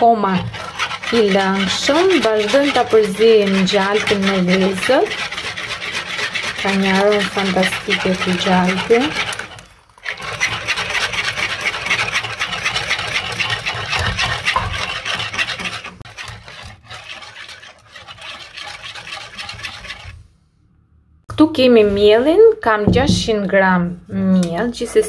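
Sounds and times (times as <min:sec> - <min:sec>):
wire whisk scraping a bowl: 0:00.0 - 0:20.3.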